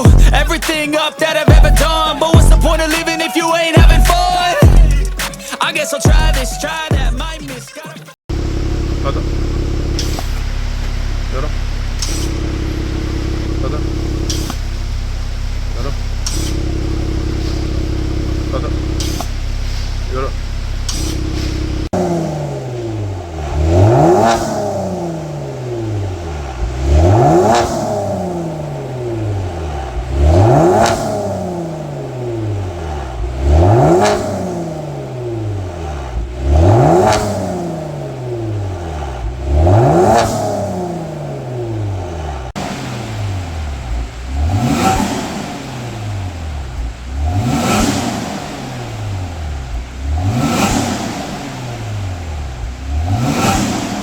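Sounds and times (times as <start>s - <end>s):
car engine revving: 0.0s - 7.6s, 8.3s - 54.0s.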